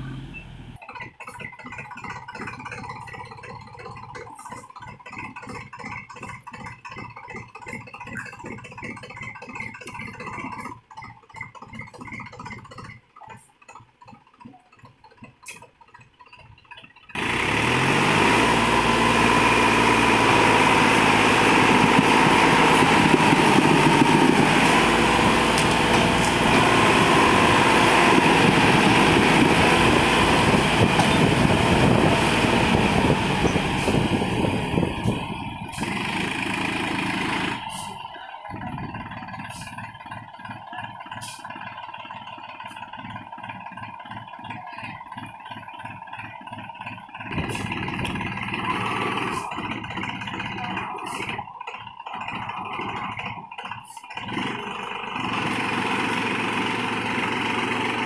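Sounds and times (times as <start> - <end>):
tractor diesel engine chugging: 0.0 - 58.0.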